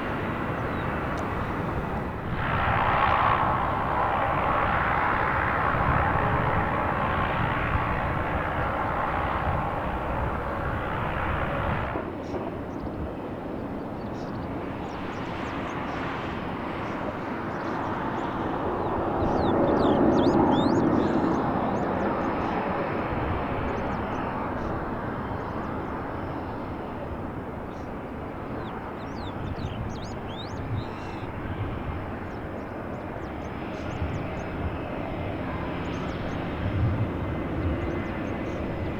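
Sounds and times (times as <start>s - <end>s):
airplane engine: 0.0s - 38.9s.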